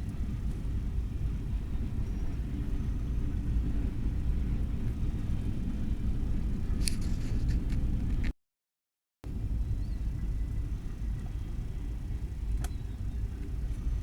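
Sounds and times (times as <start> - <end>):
freight train rumbling: 0.0 - 8.3, 9.2 - 14.0.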